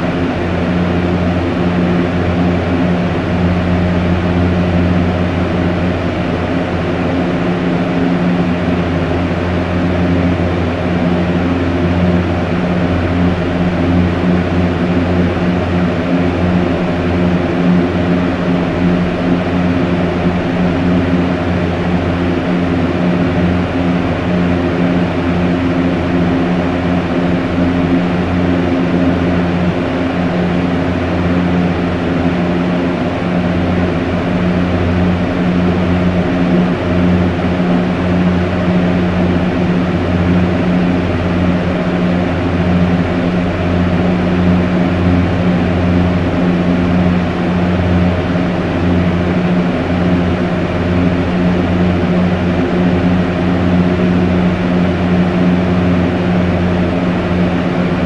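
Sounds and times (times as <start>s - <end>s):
fan humming with rushing air: 0.0s - 58.0s.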